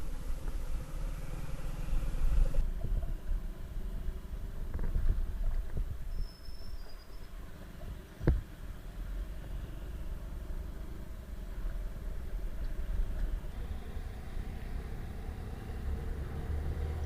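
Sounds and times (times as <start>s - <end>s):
motorcycle engine and road rumble: 0.0s - 17.0s.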